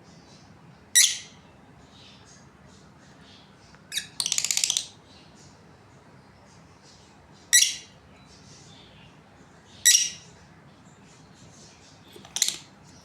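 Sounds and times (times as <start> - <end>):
lovebirds high-pitched calls: 0.3 - 5.6, 6.3 - 13.0.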